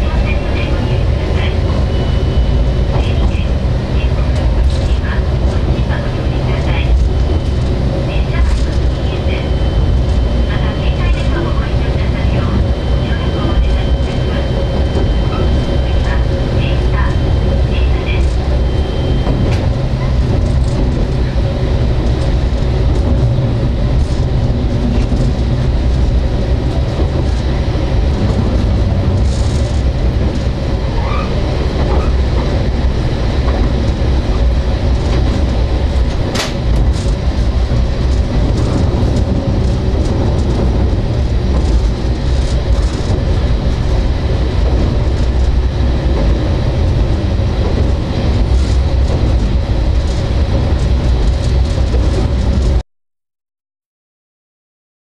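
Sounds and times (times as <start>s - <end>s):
railcar engine and wheels rumbling: 0.0s - 52.8s.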